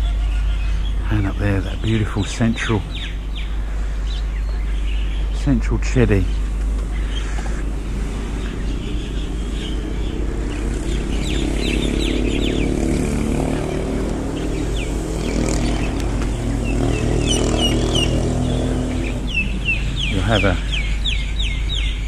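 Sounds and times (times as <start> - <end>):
birds chirping: 0.0 - 22.0
vehicle engine running: 0.0 - 22.0.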